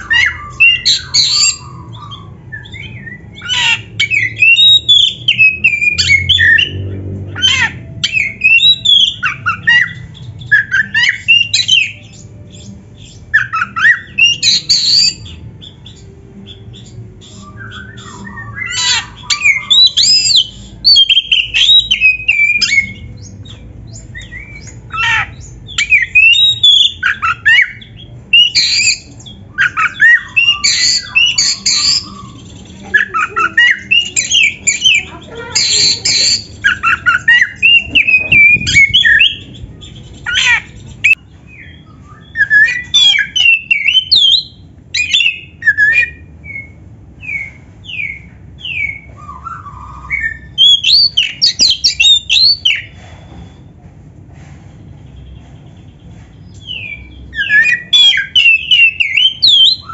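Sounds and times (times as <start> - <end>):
songbird whistling and chattering: 0.0 - 53.0, 55.1 - 59.9.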